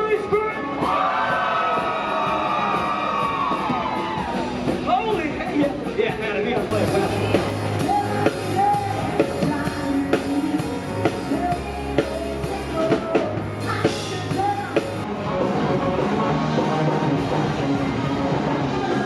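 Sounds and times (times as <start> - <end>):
drum kit steady beat: 0.0 - 19.0.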